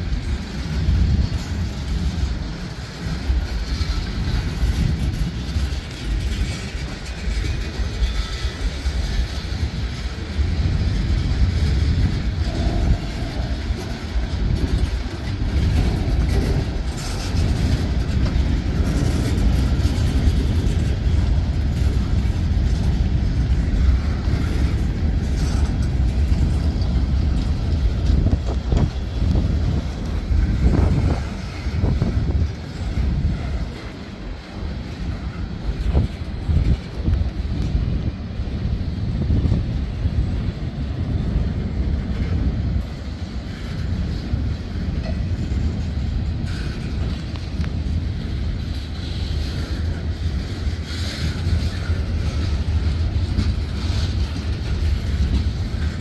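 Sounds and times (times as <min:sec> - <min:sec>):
train wheel clacks: 0:00.0 - 0:56.0
train wheels rumbling on rail: 0:00.0 - 0:56.0.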